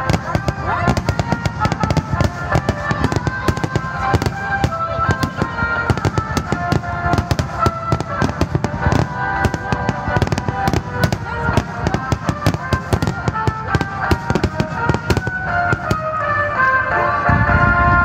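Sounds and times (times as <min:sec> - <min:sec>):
firework crackle: 0:00.0 - 0:18.0.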